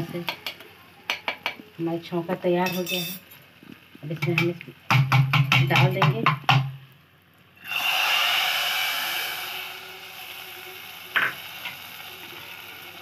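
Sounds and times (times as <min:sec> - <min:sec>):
hot oil sizzling loudly: 0:00.0 - 0:13.0.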